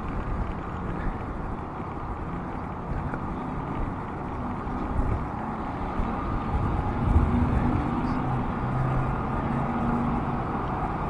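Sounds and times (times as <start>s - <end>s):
bicycle riding rumble: 0.0s - 11.0s
vehicle engine running: 0.0s - 11.0s
wind: 0.0s - 11.0s.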